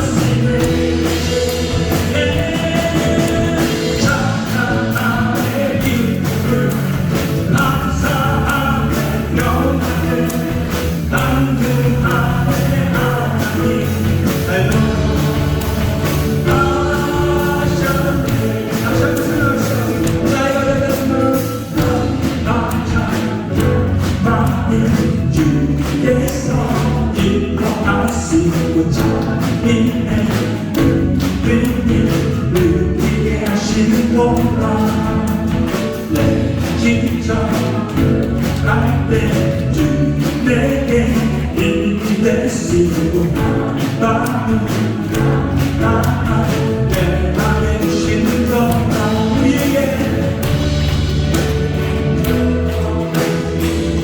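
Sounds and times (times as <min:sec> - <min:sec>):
congregation singing gospel song: 0:00.0 - 0:54.0
live band with drums: 0:00.0 - 0:54.0.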